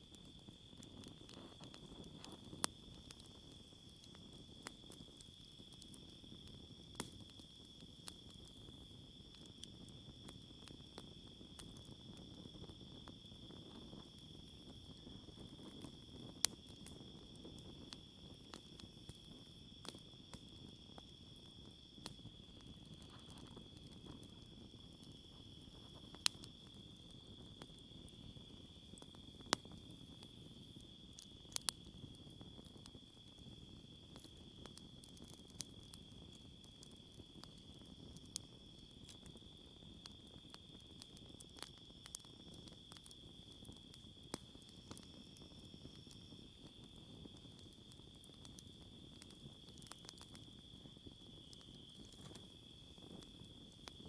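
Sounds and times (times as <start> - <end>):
campfire crackling and popping: 0.0 - 54.0
insects chirping: 0.2 - 54.0.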